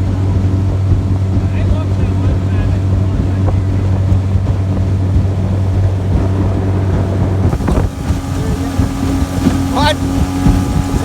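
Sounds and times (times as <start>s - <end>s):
boat motor running: 0.0s - 11.0s
wind on microphone: 0.0s - 11.0s.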